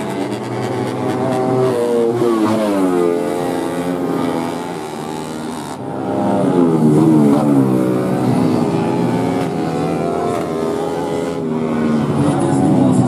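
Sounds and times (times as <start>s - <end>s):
motorcycle engine at high revs passing: 0.0s - 13.0s.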